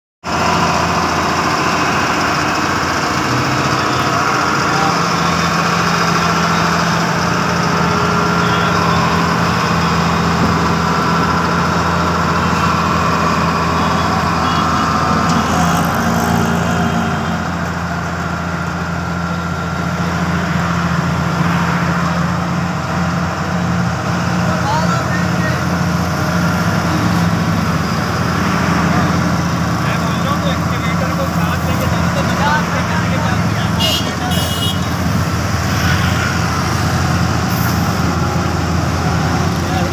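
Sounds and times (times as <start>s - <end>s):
paver diesel engine hum: 0.2s - 39.9s.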